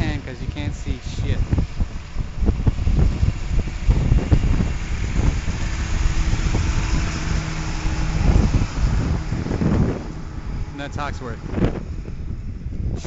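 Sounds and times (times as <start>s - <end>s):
vehicle engine humming: 0.0s - 13.0s
wind buffeting microphone: 0.0s - 13.0s.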